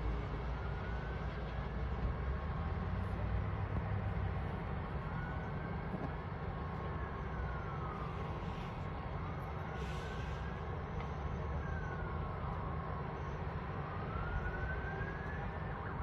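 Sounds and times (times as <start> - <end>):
distant siren wailing: 0.0 - 16.0
road traffic rumble: 0.0 - 16.0.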